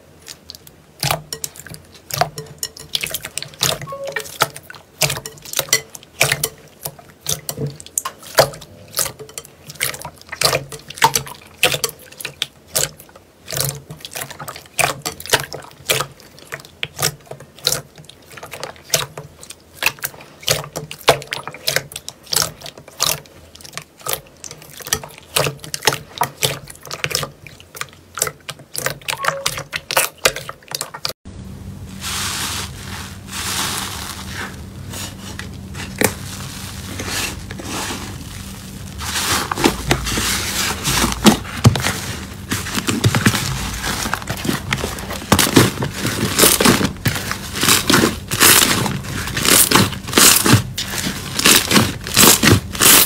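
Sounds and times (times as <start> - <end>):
hands squishing slime: 0.0 - 31.1, 32.1 - 53.0.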